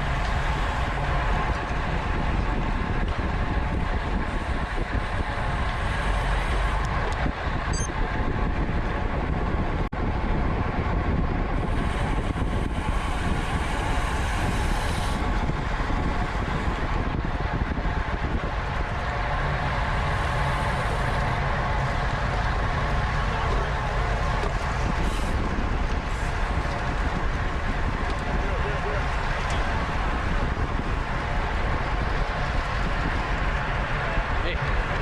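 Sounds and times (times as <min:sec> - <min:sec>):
road and tyre noise: 0:00.0 - 0:35.0
wind noise on microphone: 0:00.0 - 0:35.0.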